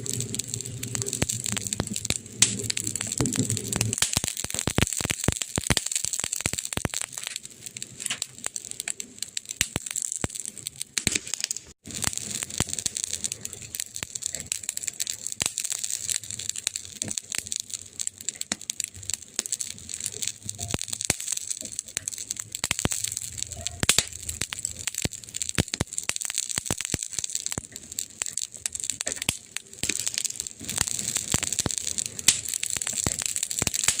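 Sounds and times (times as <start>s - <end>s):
fire crackling: 0.0s - 34.0s.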